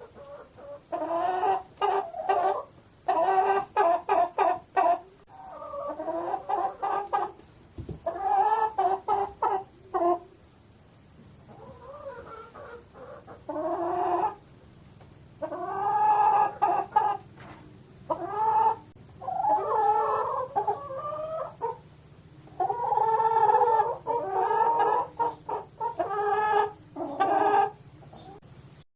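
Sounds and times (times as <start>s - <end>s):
chickens clucking: 0.0s - 10.6s, 11.2s - 28.5s.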